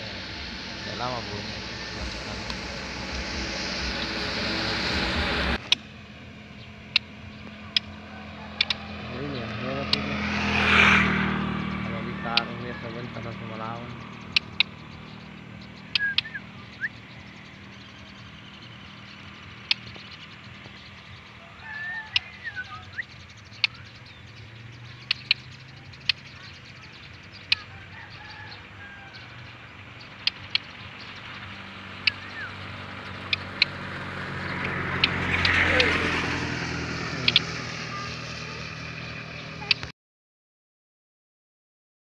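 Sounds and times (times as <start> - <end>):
bird chirping softly: 5.5 - 39.9.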